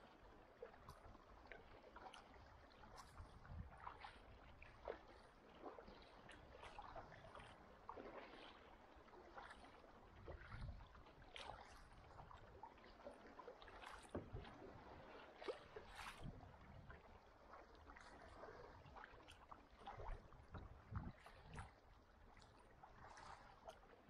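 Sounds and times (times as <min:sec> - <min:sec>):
kayak paddle splashing: 0:00.0 - 0:24.0
water lapping on hull: 0:00.0 - 0:24.0.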